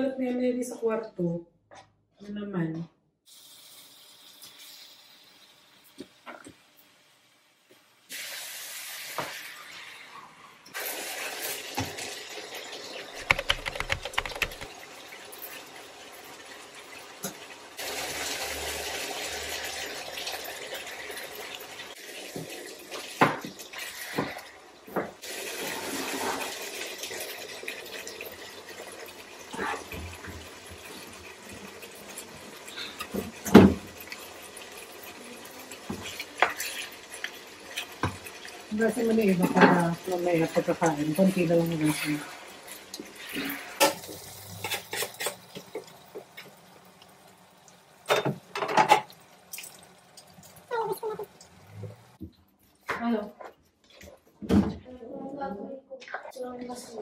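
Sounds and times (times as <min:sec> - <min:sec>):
meat sizzling in a wok: 0:03.3 - 0:13.2, 0:14.7 - 0:51.8.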